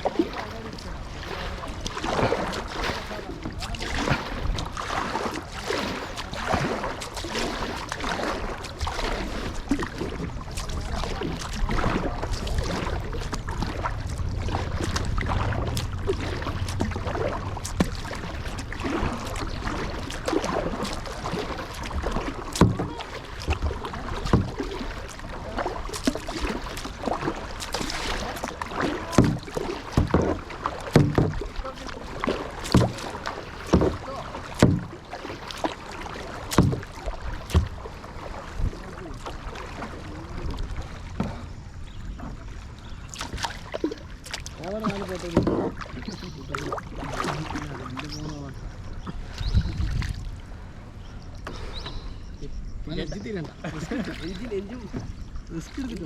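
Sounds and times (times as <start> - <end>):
paddle strokes hitting water: 0.0 - 52.1, 53.2 - 56.0
moving river water: 0.0 - 56.0.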